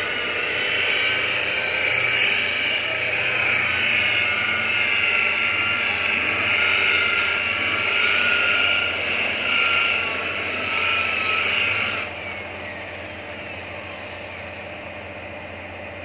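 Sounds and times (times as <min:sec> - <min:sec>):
rotary polisher whining: 0:00.0 - 0:16.0.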